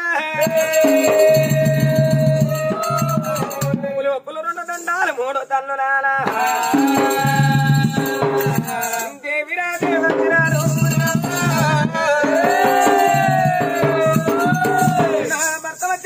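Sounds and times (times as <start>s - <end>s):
rattling hand percussion: 0.4s - 5.5s, 6.2s - 16.0s.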